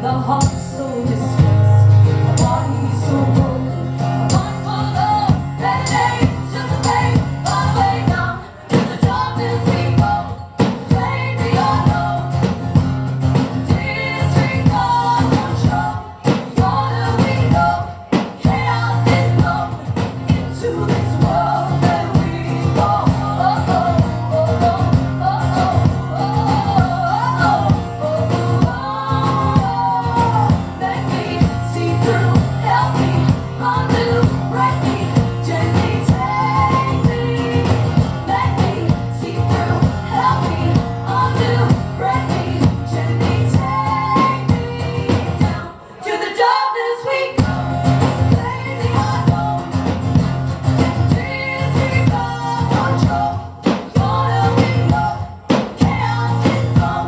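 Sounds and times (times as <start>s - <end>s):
wordless singing: 0.0s - 12.7s, 13.4s - 57.0s
live rock band playing: 0.0s - 45.6s, 47.4s - 57.0s.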